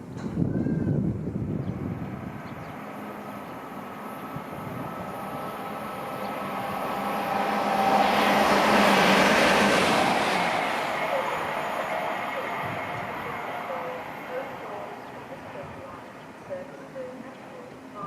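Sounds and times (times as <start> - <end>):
train running past: 0.0 - 18.0.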